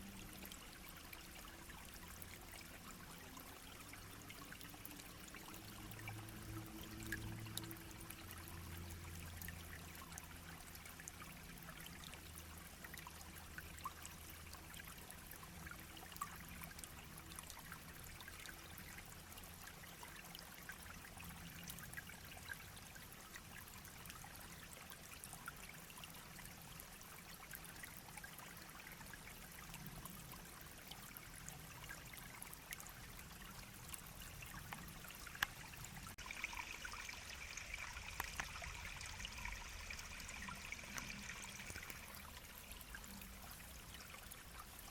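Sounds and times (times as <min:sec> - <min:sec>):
small stream babbling: 0:00.0 - 0:44.9.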